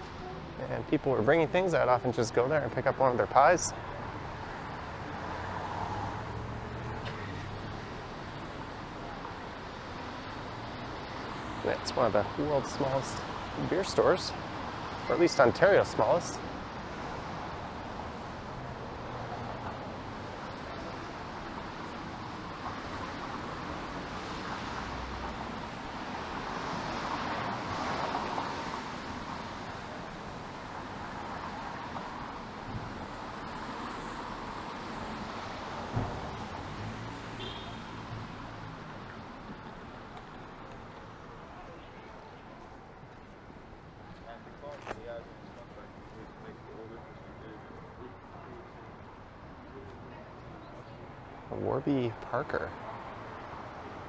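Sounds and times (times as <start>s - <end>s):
passing vehicles hum: 0.0s - 54.0s
street traffic noise: 0.0s - 54.0s.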